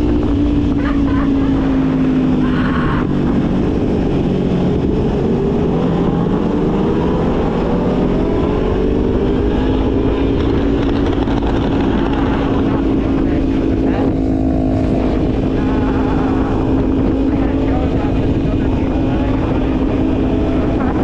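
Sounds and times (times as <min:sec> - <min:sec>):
sport bike engine accelerating: 0:00.0 - 0:21.0
wind buffeting microphone: 0:00.0 - 0:21.0.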